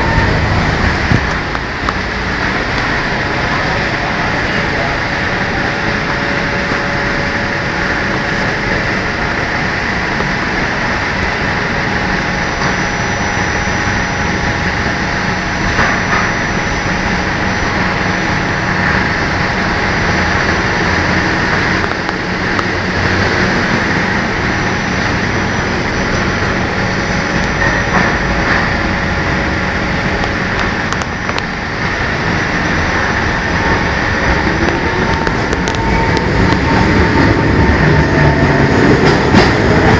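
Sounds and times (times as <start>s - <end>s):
train equipment humming: 0.0s - 39.9s
train pulling away: 0.0s - 39.9s.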